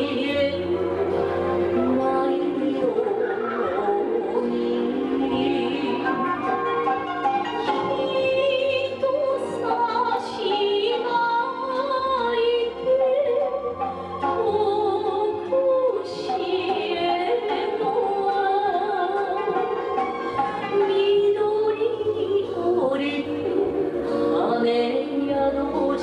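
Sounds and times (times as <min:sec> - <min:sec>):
woman singing: 0:00.0 - 0:07.0, 0:07.6 - 0:26.0
instrumental accompaniment: 0:00.0 - 0:26.0.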